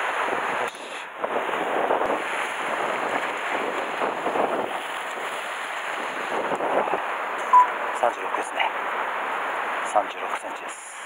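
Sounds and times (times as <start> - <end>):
wind buffeting microphone: 0.0 - 9.9
surf splashing against rocks: 0.0 - 10.3.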